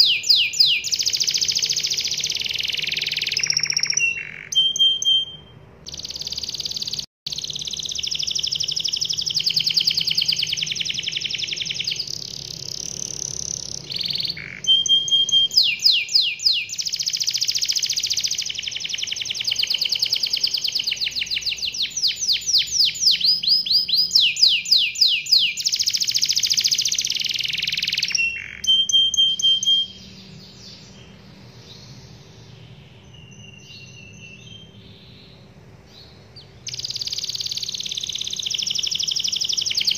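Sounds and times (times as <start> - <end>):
canary singing trills: 0.0 - 39.9
faint bird chirps: 0.0 - 39.9.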